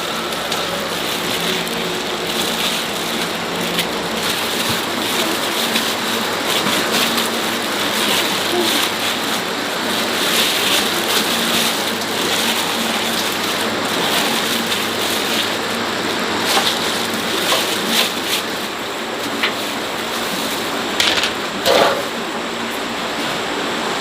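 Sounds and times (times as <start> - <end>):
rain falling: 0.0 - 21.3.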